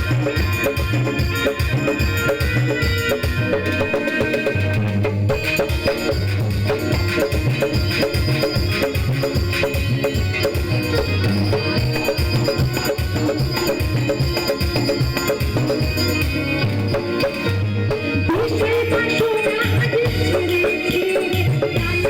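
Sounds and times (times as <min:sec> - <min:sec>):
melodic line: 0:00.0 - 0:19.6
hand-drum strokes: 0:00.0 - 0:22.0.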